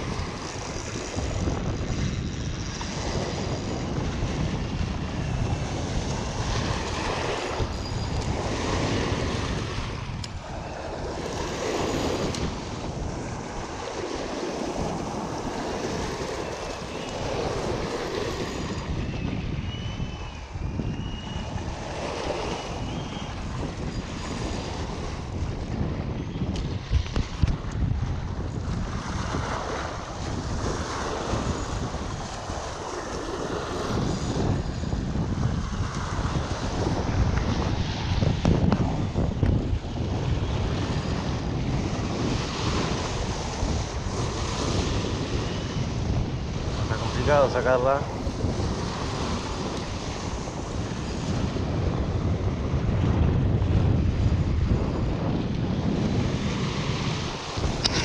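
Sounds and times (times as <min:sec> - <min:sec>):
choppy river water: 0:00.0 - 0:58.0
wind buffeting microphone: 0:00.0 - 0:58.0.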